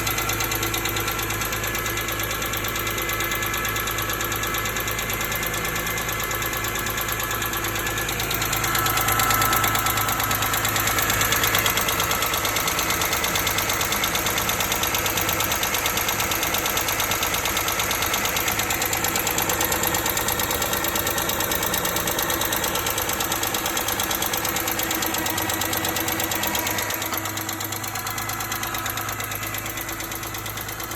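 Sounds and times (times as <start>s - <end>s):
engine ticking: 0.0s - 30.9s.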